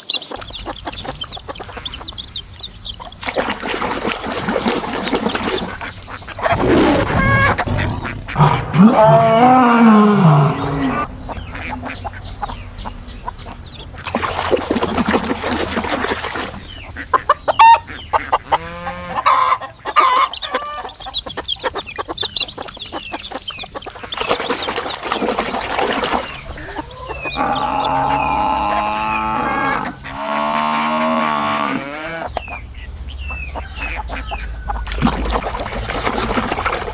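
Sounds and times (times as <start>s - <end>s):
chicken clucking and squawking: 0.0s - 36.9s.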